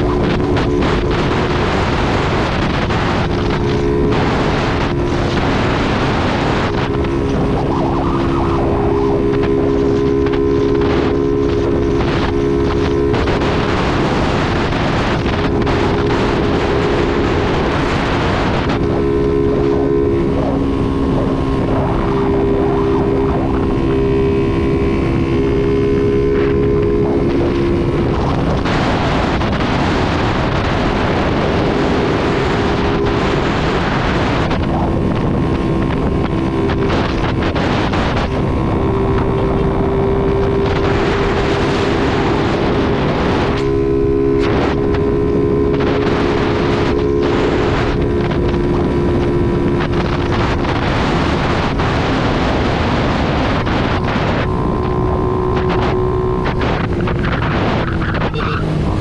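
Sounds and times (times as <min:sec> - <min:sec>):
motorcycle engine cruising: 0:00.0 - 0:59.0
wind buffeting microphone: 0:00.0 - 0:59.0.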